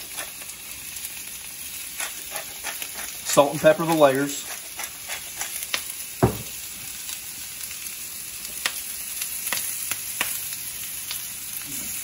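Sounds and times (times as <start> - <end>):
potatoes sizzling in a skillet: 0.0 - 12.0.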